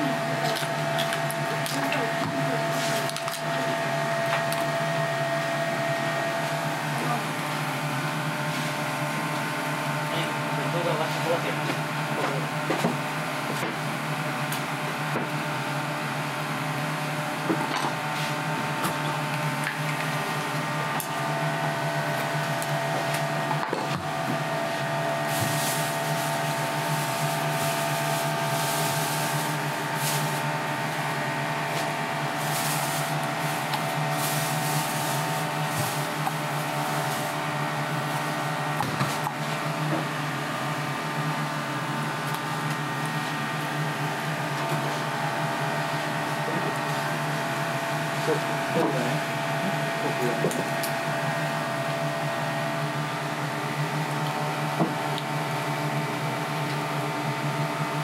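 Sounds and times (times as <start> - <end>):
kitchen equipment humming: 0.0 - 58.0.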